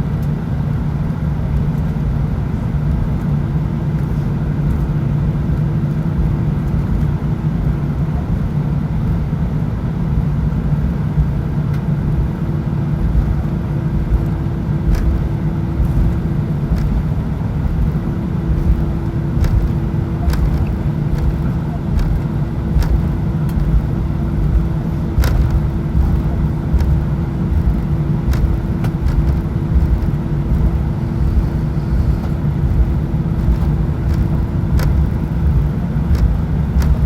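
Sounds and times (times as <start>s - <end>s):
airliner cabin rumble and hum: 0.0s - 37.0s
faint whine: 1.1s - 37.0s.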